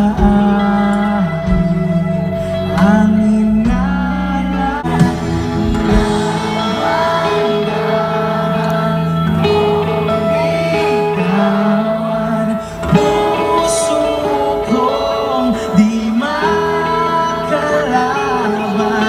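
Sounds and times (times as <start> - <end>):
acoustic guitar strumming: 0.0 - 19.0
electric guitars: 0.0 - 19.0
man singing: 0.0 - 19.0.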